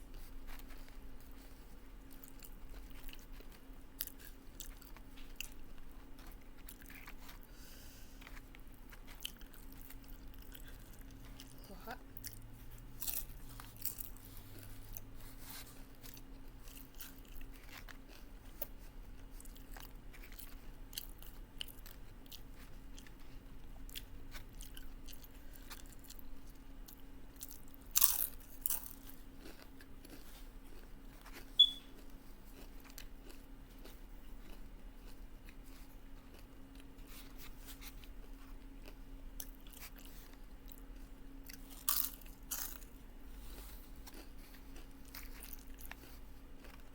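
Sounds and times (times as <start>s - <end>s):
chewing and crunching: 0.0s - 46.9s
faint steady hum: 0.0s - 46.9s.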